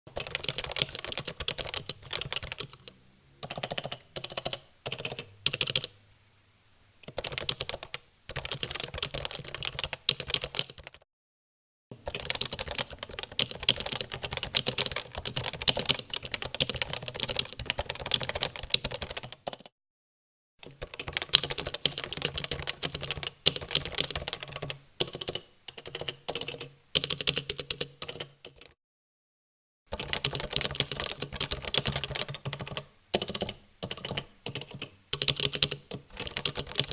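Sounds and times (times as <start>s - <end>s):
typing on keyboard: 0.1s - 5.9s, 7.0s - 11.0s, 11.9s - 19.7s, 20.6s - 28.8s, 29.9s - 36.9s.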